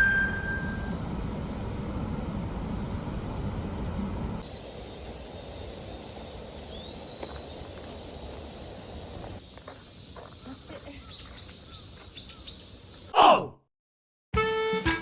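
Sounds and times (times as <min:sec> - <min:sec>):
insects hissing: 0:00.0 - 0:13.2.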